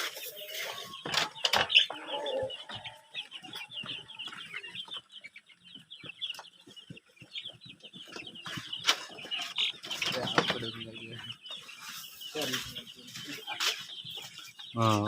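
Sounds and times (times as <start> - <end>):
hens clucking: 0.0 - 15.0
rapid high peeping: 0.0 - 15.0.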